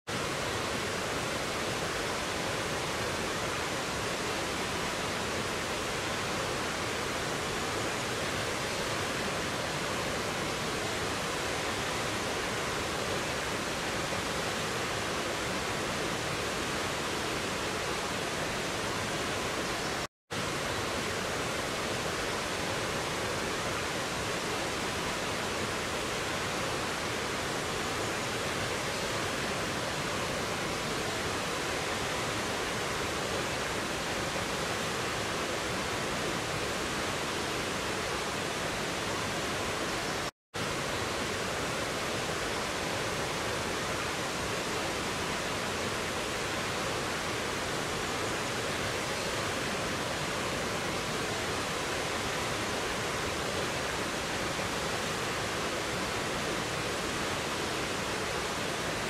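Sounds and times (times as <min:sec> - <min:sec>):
stream cascading over boulders: 0:00.1 - 0:59.0.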